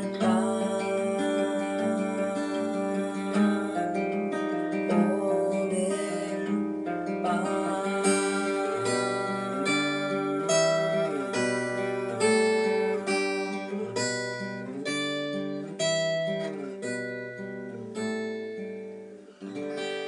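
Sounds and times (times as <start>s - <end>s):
acoustic guitar strummed and picked: 0.0s - 20.0s.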